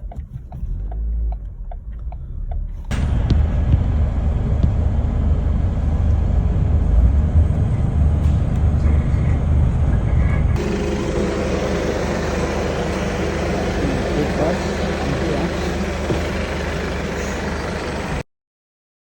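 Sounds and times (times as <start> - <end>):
vehicle engine and road noise: 0.0 - 18.3.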